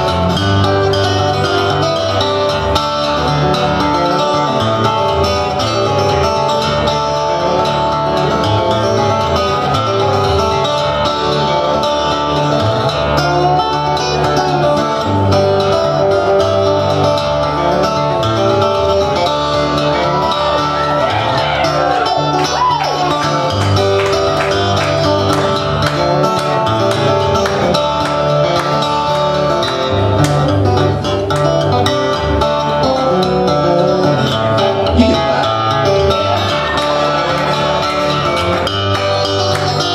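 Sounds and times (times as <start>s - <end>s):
fingerpicked harp guitar: 0.0s - 39.9s.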